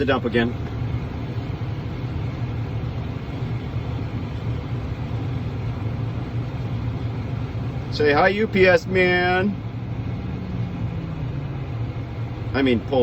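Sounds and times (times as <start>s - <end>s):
diesel engine drone in cab: 0.0s - 13.0s.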